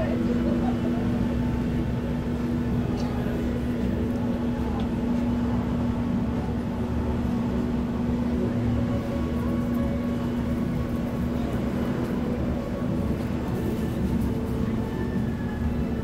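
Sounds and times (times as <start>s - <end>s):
boat engines droning: 0.0s - 16.0s
constant hum: 0.0s - 16.0s.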